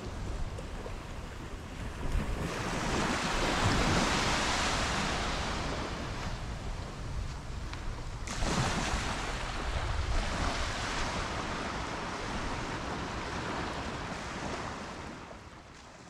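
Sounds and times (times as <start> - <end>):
surf washing onto beach: 0.0 - 15.8
wind rumbling on microphone: 0.0 - 16.0.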